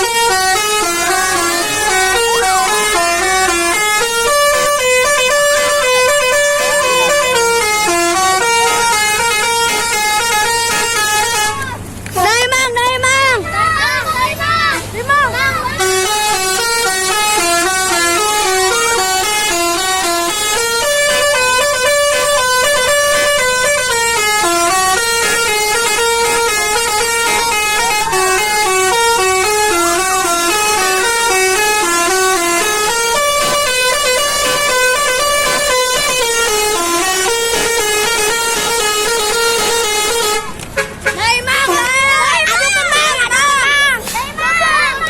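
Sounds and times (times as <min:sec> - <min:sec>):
multi-tone bus horn melody: 0:00.0 - 0:44.2.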